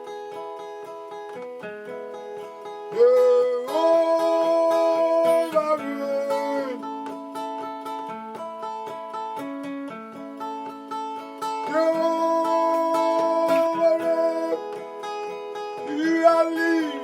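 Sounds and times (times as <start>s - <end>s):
worship music with guitar and beat: 0.0s - 17.0s.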